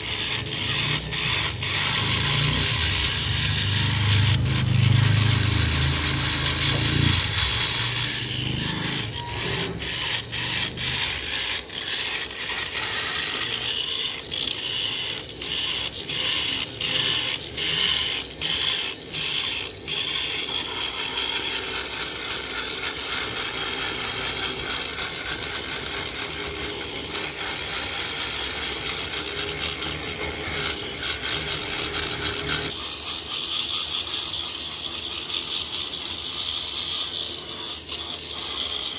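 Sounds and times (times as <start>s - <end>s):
metal scraping: 0.0s - 32.8s.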